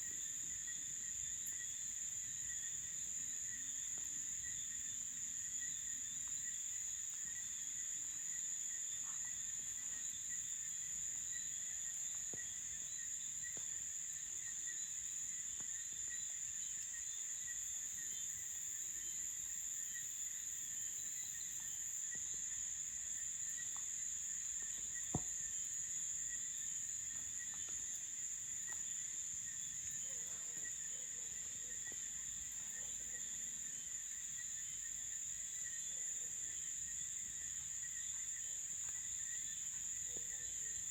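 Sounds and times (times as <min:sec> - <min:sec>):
crickets and insects droning: 0:00.0 - 0:40.9.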